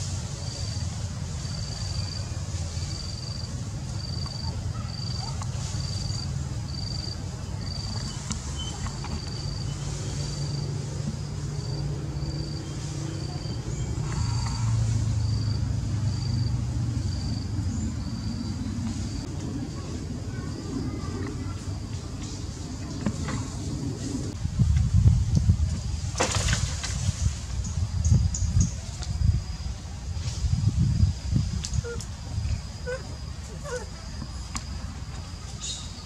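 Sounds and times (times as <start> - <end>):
insect chirping: 0.0 - 23.9, 25.8 - 36.0
steady low rumble: 0.0 - 36.0.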